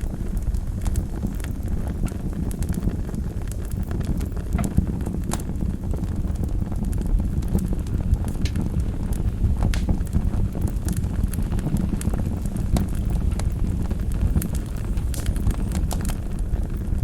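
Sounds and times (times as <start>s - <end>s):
wood fire roaring and crackling: 0.0s - 17.0s.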